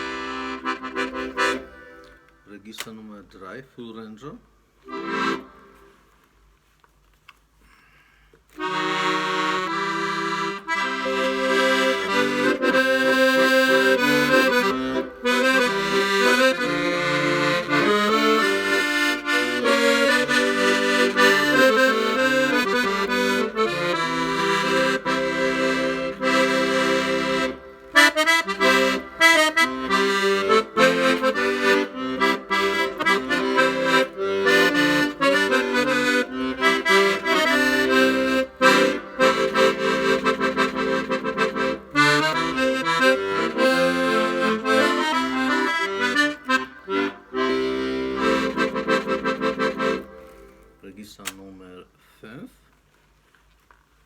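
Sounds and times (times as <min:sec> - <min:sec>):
accordion playing melody over chords: 0:00.0 - 0:02.8, 0:04.8 - 0:06.0, 0:08.5 - 0:50.9.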